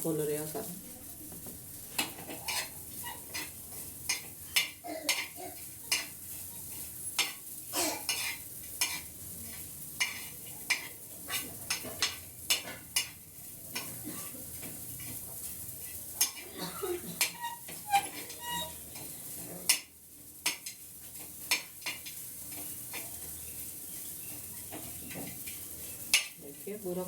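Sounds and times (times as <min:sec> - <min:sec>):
metal spoon scraping a pan: 0:01.9 - 0:26.6.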